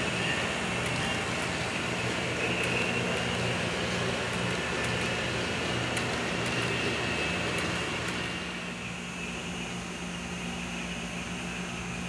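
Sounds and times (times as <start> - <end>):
model train hum and rumble: 0.0 - 12.0.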